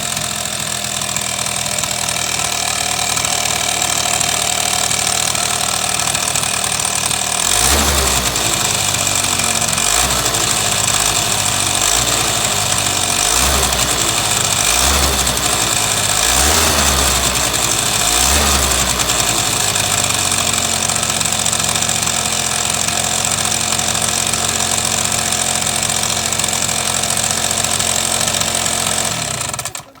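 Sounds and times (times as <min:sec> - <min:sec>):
scooter engine idling and revving: 0:00.0 - 0:30.0.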